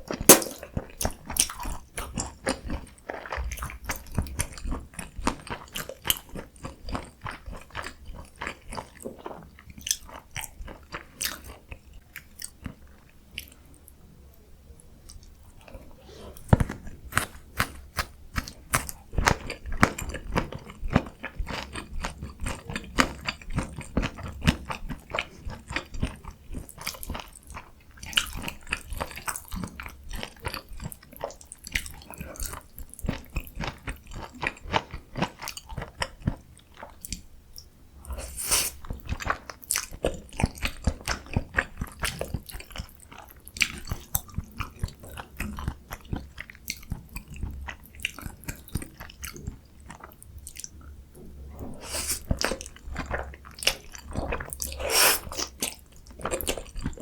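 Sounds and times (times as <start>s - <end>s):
chewing with crisp crunches: 0.1s - 14.0s, 15.1s - 51.0s, 51.7s - 57.0s.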